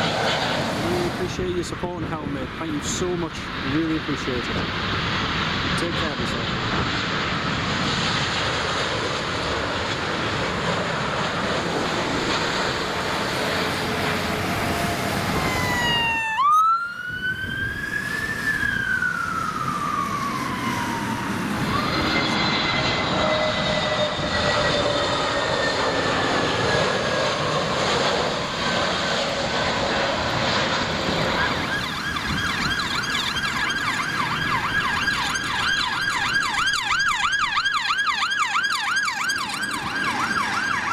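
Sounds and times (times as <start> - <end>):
emergency vehicle siren: 0.0 - 3.1, 4.1 - 40.9
jet airliner passing: 0.0 - 40.9.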